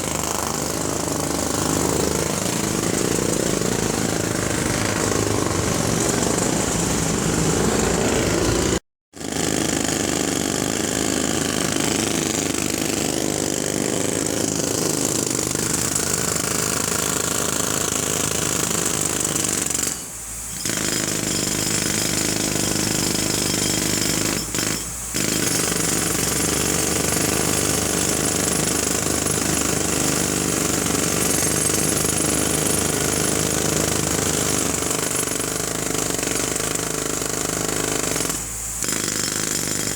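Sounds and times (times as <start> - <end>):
jackhammer hammering: 0.0 - 39.9.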